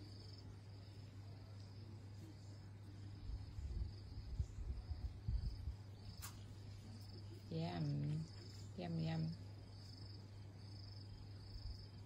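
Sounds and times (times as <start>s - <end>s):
crickets chirping: 0.0s - 12.0s
steady low hum: 0.0s - 12.0s.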